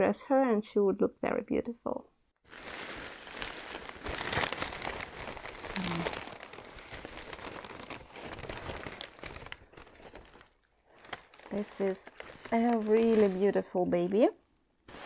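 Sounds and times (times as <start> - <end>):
bubble wrap and paper crinkling: 2.4 - 15.0.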